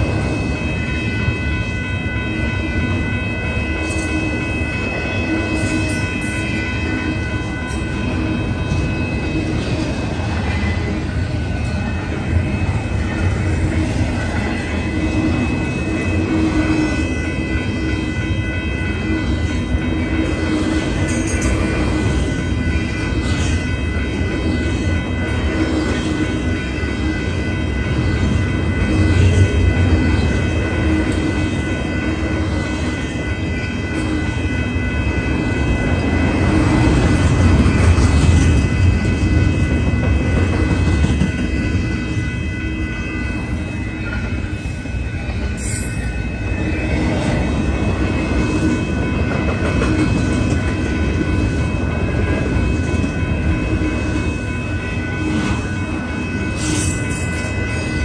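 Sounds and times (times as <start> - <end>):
thin high ringing tones: 0.0 - 58.0
train wheels rumbling on rail: 0.0 - 58.0.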